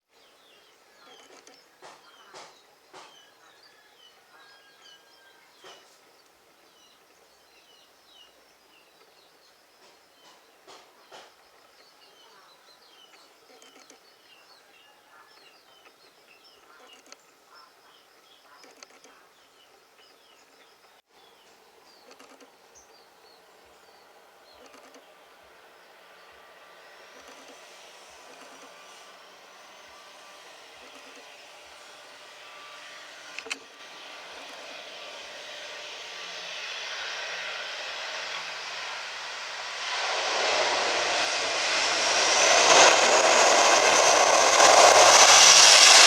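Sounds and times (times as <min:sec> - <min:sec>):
small birds chirping: 0:00.2 - 0:46.0.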